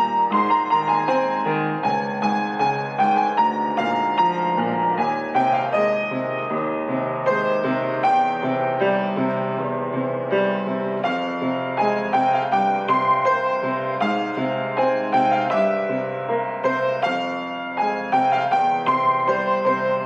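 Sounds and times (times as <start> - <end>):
solo piano melody: 0.0 - 20.0.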